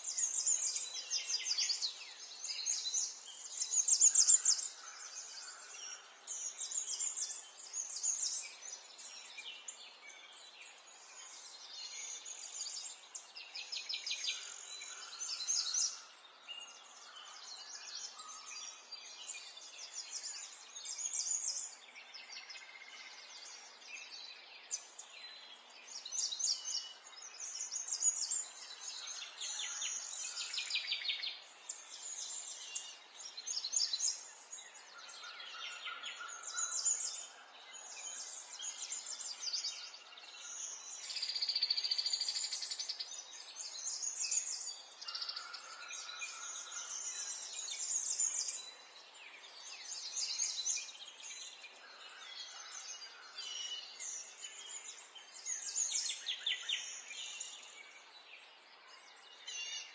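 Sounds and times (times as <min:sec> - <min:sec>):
songbirds singing and trilling: 0:00.0 - 0:59.9.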